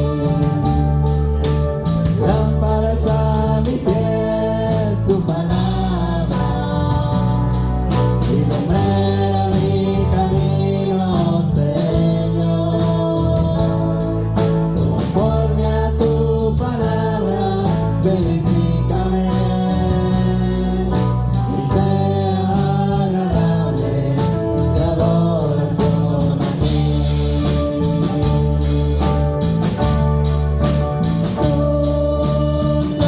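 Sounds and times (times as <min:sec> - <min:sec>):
people singing: 0:00.0 - 0:29.8, 0:31.2 - 0:33.0
band drum beat: 0:00.0 - 0:33.0
sustained bass: 0:00.0 - 0:33.0.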